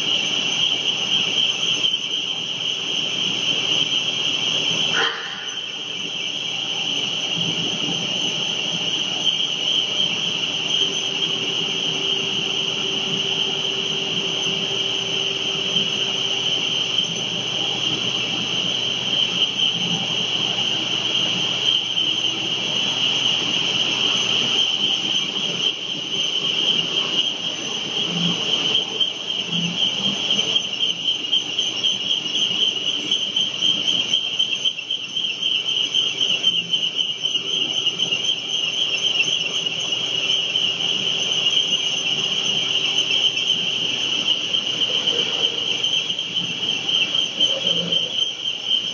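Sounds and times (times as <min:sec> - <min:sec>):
machine high-pitched whine: 0:00.0 - 0:48.9.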